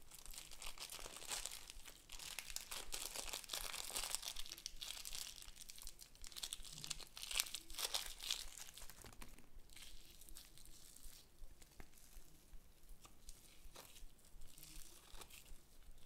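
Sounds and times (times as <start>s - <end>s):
slime crackling and crinkling: 0.0s - 16.0s.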